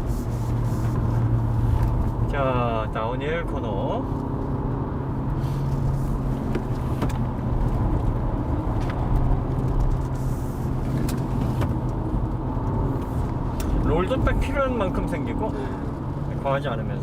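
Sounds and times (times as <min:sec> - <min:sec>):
engine and road drone in cabin: 0:00.0 - 0:17.0.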